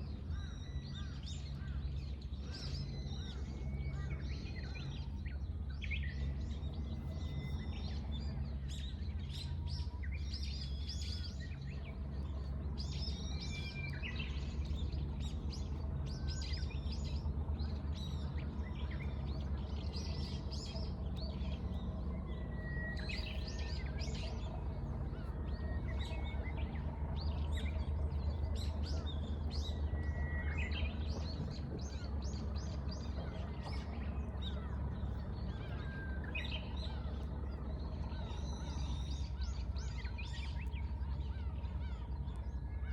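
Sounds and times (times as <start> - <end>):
small birds chirping: 0.0 - 42.9
steady low rumble: 0.0 - 42.9.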